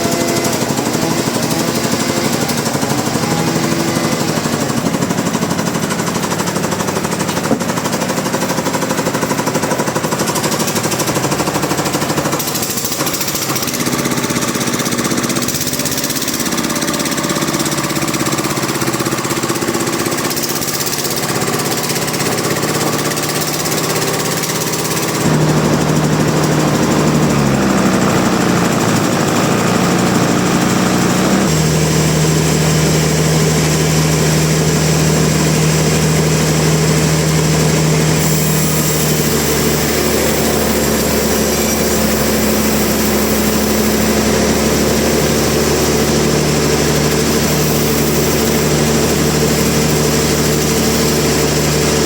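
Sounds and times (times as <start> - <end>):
sawmill engine droning: 0.0 - 52.0.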